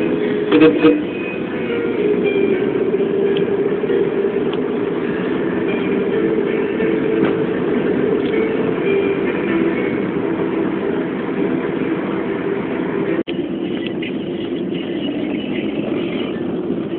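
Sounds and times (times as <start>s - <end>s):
road traffic: 0.0s - 16.9s.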